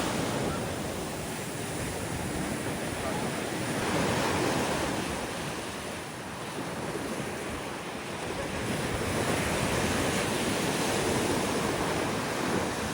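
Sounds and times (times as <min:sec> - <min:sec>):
ocean surf washing ashore: 0:00.0 - 0:12.9
wind on microphone: 0:00.0 - 0:12.9.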